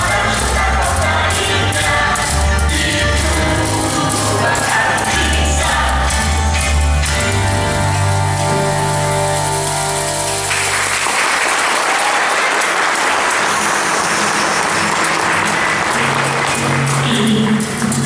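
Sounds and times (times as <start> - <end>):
audience clapping and cheering: 0.0 - 2.6, 3.4 - 18.0
song with accompaniment: 0.0 - 11.1, 13.0 - 18.0.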